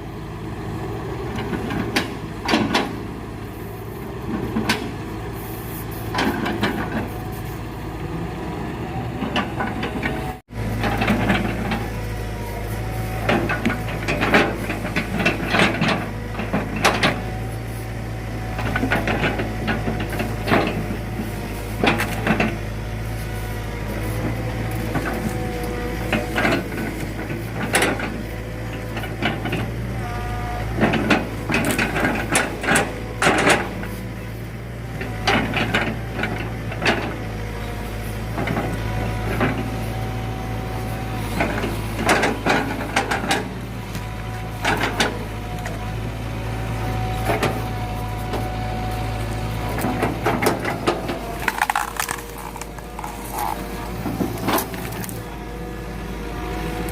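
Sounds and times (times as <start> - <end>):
excavator engine drone: 0.0 - 56.9.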